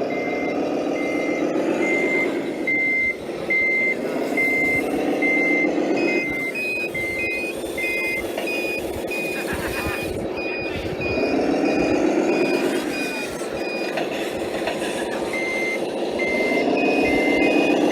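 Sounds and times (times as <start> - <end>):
higher-pitched reversing beeper: 0.0 - 17.9
motor whine: 0.0 - 17.9
reversing beeper: 0.0 - 17.9.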